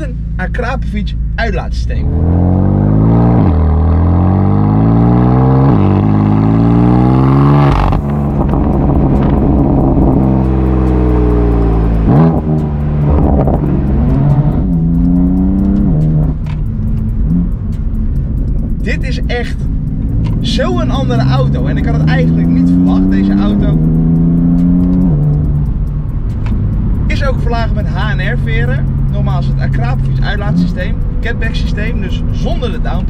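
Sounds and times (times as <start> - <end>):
exhaust crackling and popping: 0.0 - 33.0
car engine accelerating hard: 1.8 - 33.0.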